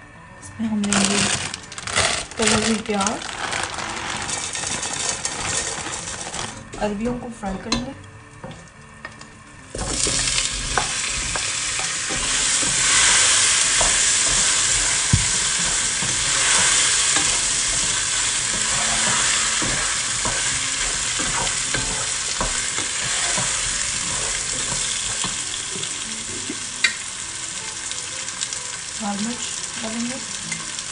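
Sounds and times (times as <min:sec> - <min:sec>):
taro sizzling in hot oil: 0:00.8 - 0:30.9.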